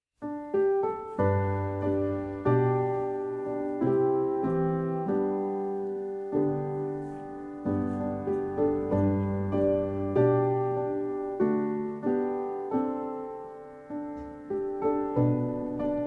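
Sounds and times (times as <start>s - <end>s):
slow piano chords: 0.2s - 16.0s.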